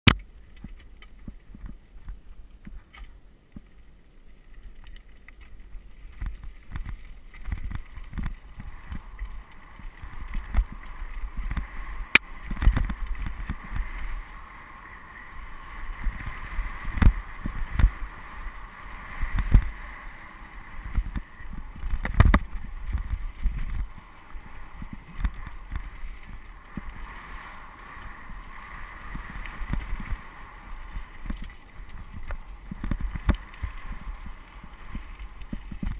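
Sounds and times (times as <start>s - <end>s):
wheels knocking on rocks: 0.1s - 14.4s, 15.4s - 35.9s
bike tyres on gravel: 0.1s - 35.9s
wind rumbling on microphone: 0.1s - 35.9s.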